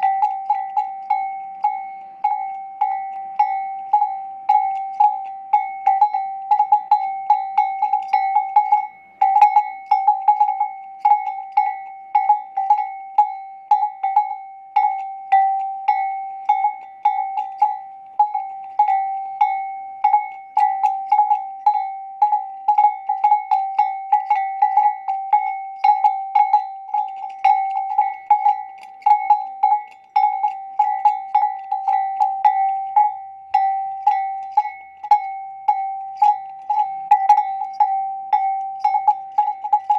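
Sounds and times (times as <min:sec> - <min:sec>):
metal bell clanging: 0:00.0 - 0:39.9.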